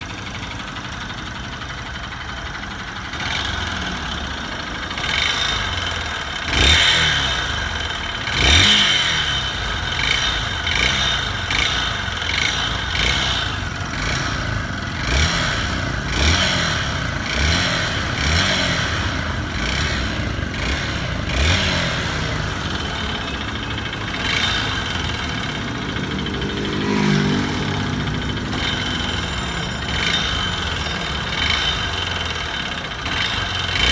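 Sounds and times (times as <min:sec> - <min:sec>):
engine knocking noise: 0:00.0 - 0:33.9
motorcycle engine revving: 0:00.0 - 0:33.9.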